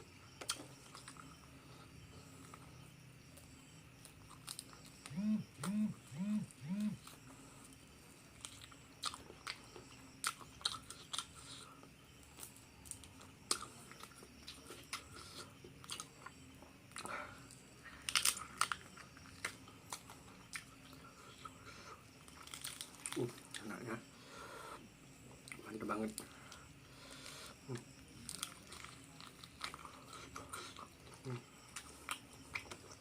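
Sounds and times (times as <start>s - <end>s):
crunchy food chewing: 0.0s - 24.1s, 24.8s - 33.0s.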